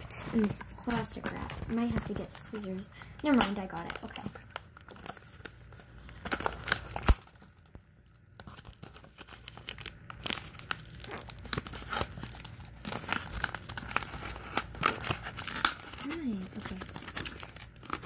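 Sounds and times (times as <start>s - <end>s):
plastic wrap crinkling and tearing: 0.0s - 18.0s.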